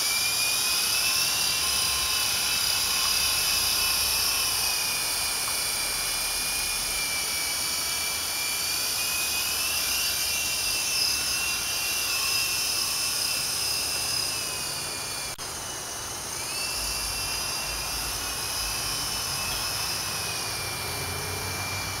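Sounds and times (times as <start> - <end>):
toy helicopter motors whining: 0.0 - 22.0.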